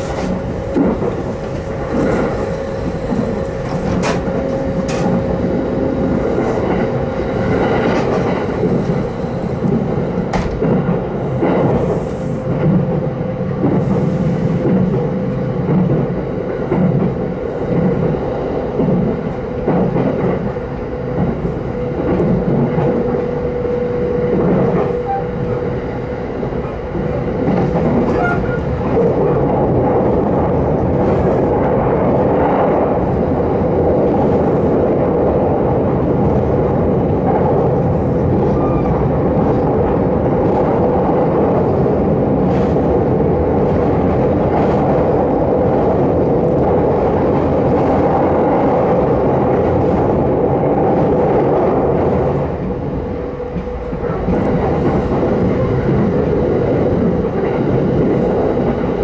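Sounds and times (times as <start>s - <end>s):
steady train hum: 0.0s - 59.0s
train rumbling over a bridge: 0.0s - 59.0s
train wheels clickety-clack: 0.0s - 59.0s.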